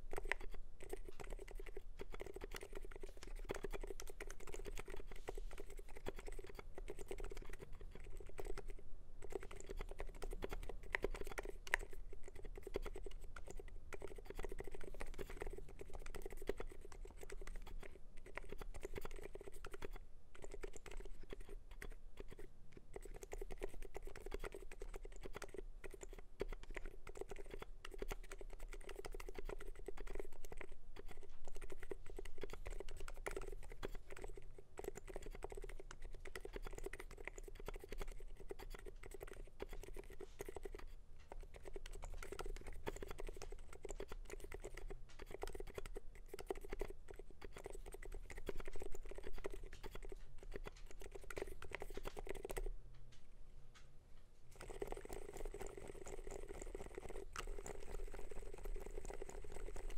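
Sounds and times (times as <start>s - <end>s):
fast mechanical keyboard typing: 0.0s - 52.7s, 54.5s - 59.9s.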